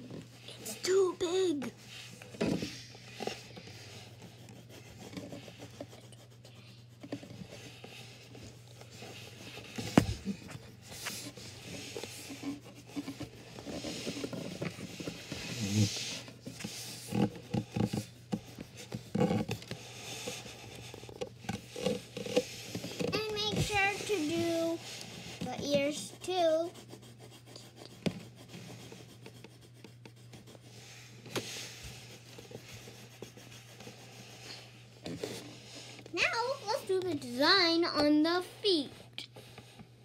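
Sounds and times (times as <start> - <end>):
pencil scratching on paper: 0.0 - 38.7.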